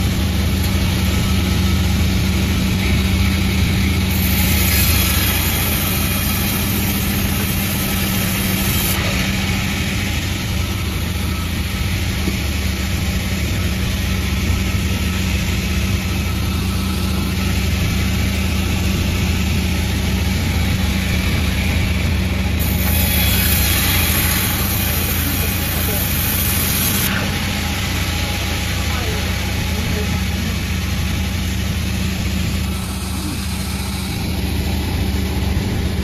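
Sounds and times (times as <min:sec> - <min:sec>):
sawmill machine droning: 0:00.0 - 0:36.0.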